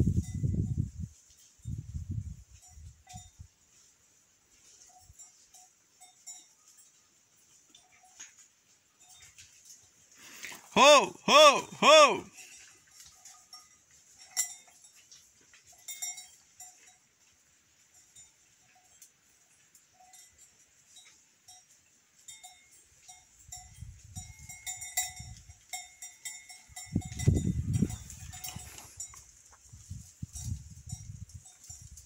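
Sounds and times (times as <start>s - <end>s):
livestock bells clanking: 2.5s - 3.5s, 4.6s - 9.8s, 10.7s - 32.0s.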